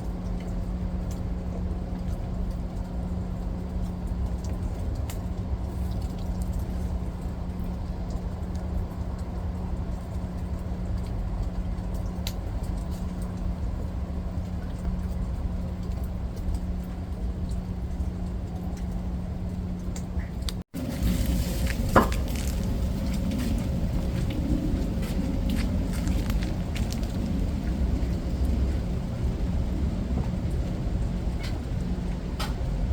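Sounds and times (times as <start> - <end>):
faint steady hum: 0.0 - 32.9
rain falling: 0.0 - 32.9
water drip ticks: 0.0 - 32.9.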